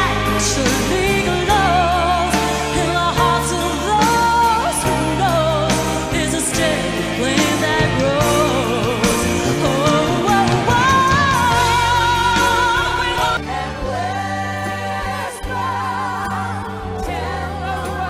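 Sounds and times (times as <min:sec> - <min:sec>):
band accompaniment: 0:00.0 - 0:18.0
woman singing into a microphone: 0:00.0 - 0:18.0.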